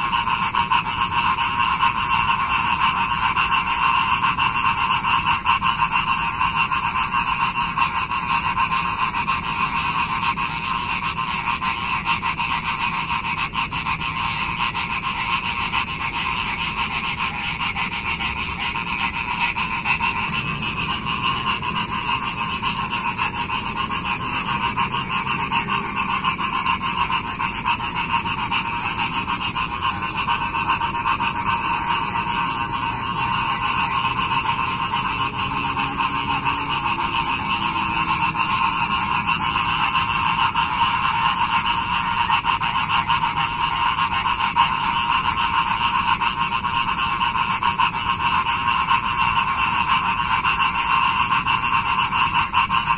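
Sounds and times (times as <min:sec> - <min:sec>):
chorus of frogs calling: 0:00.0 - 0:52.9.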